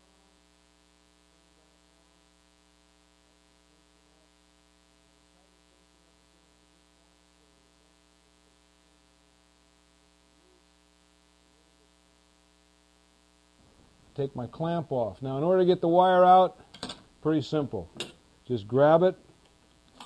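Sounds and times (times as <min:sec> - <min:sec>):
faint mains hum: 0:00.0 - 0:20.0.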